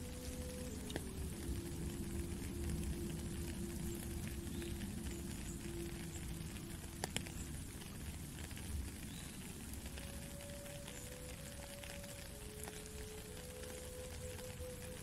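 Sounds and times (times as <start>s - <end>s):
soft flute held notes: 0.0s - 7.9s, 9.7s - 15.0s
rain pattering on a puddle: 0.0s - 15.0s.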